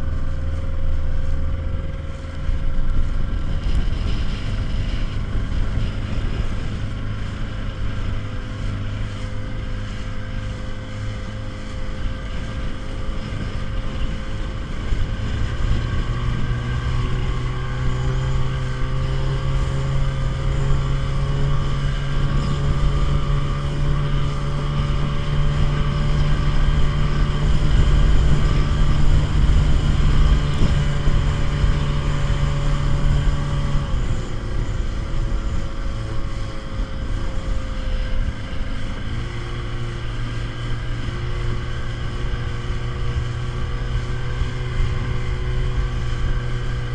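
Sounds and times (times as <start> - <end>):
motorboat engine running: 0.0 - 46.9
wind buffeting microphone: 0.0 - 46.9.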